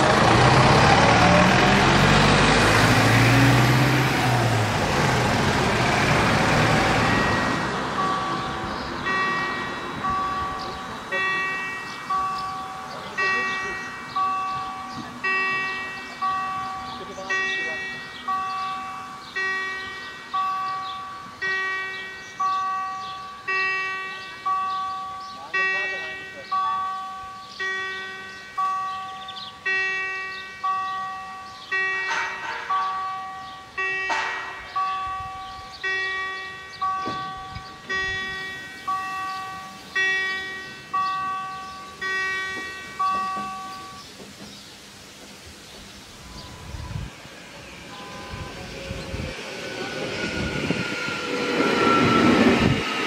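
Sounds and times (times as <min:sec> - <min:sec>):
level crossing warning bell: 0:01.3 - 0:44.3, 0:46.2 - 0:53.0.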